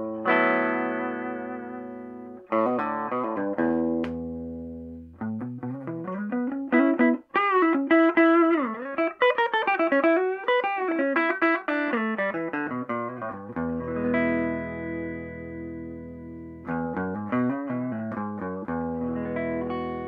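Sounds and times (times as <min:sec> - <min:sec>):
electric guitar through tube amp: 0:00.0 - 0:20.0.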